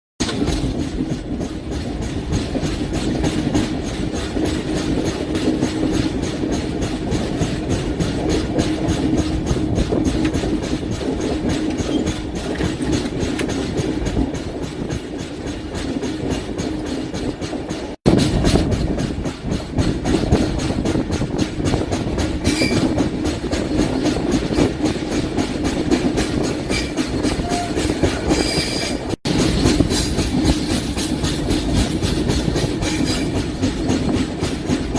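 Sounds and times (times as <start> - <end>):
train coaches rumbling: 0.2 - 34.9
wheels clickety-clack over rail joints: 0.2 - 34.9.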